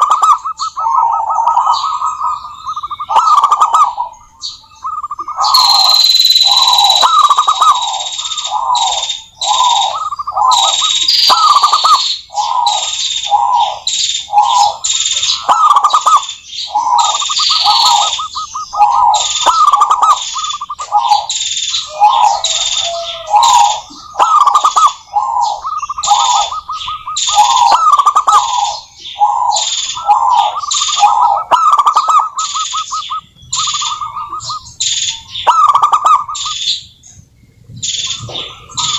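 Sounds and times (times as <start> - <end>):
doves trilling coos: 0.0 - 38.9.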